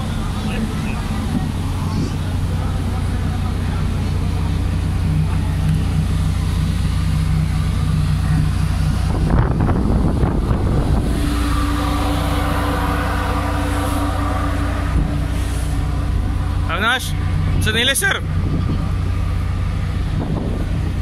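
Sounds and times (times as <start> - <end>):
rushing noise: 0.0 - 21.0
ship engines droning: 0.0 - 21.0
steady higher hum: 0.0 - 21.0.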